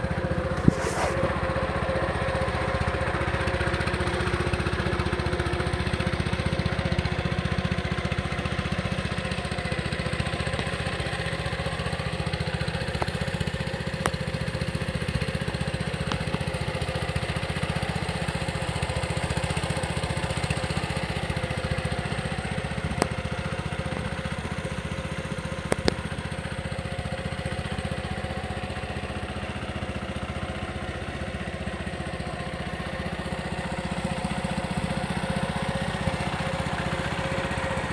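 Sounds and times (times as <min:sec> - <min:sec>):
skid steer engine running: 0:00.0 - 0:37.9.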